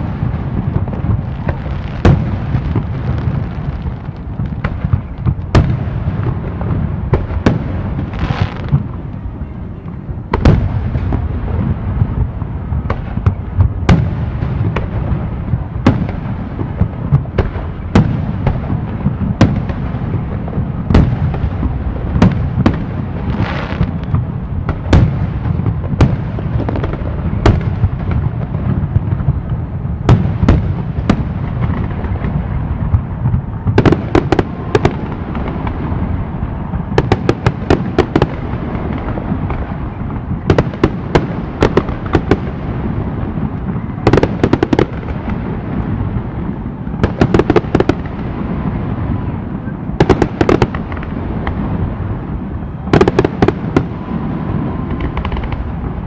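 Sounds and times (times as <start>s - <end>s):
firework bangs: 0.0s - 56.0s
firework hissing burst: 0.0s - 56.0s.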